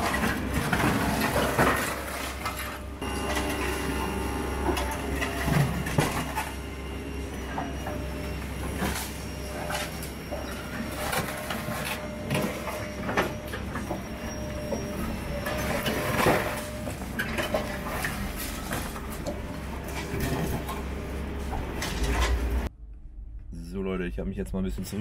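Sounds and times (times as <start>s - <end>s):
excavator engine and hydraulics drone: 0.0s - 25.0s.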